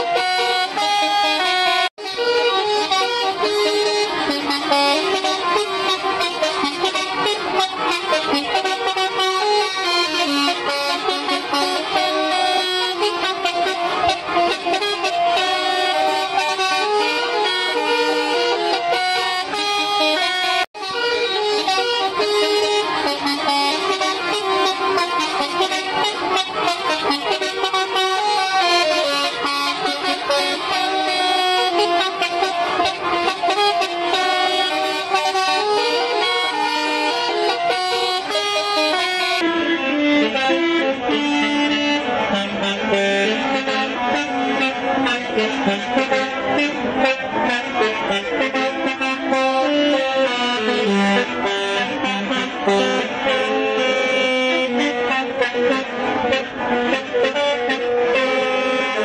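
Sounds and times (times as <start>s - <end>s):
bus horn playing a tune: 0.0s - 59.0s.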